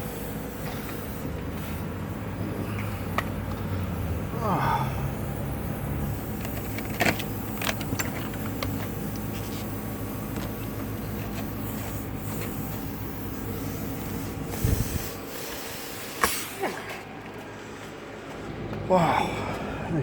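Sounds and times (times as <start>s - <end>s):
air hissing out of tyre: 0.0s - 16.8s
steady low hum: 0.0s - 20.0s.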